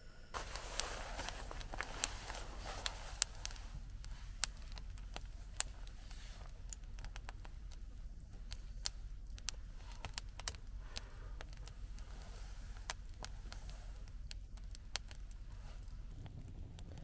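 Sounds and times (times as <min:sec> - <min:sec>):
low steady hum: 0:00.0 - 0:17.0
light clicks and taps: 0:00.6 - 0:17.0.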